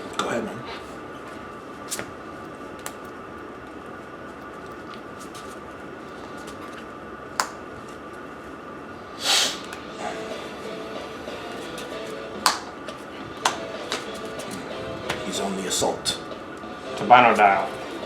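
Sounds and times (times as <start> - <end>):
faint music: 0.0 - 18.0
room hum: 0.0 - 18.0.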